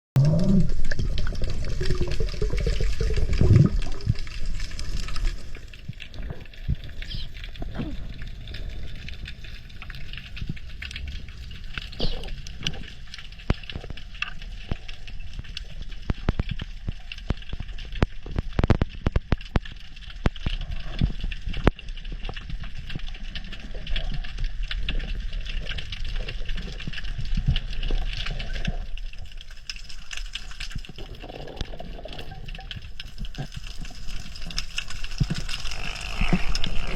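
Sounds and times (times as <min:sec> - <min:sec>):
underwater clicking and crackling: 0:00.2 - 0:36.9
underwater rush of water: 0:00.2 - 0:36.9.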